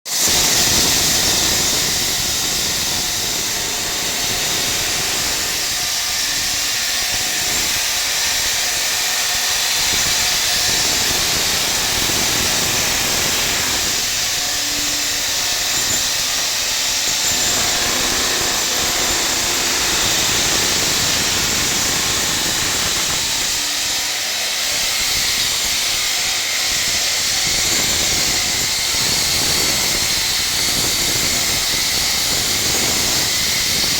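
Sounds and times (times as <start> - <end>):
power saw cutting concrete: 0.1 - 33.9.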